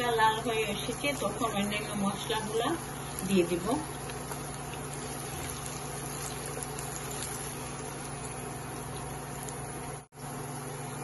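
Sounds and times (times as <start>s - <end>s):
onions sizzling in oil: 0.0s - 10.9s
steady low hum: 0.0s - 11.0s.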